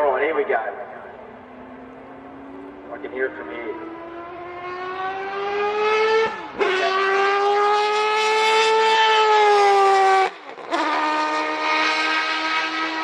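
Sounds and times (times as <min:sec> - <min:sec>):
race car engine at high revs: 0:01.0 - 0:13.0.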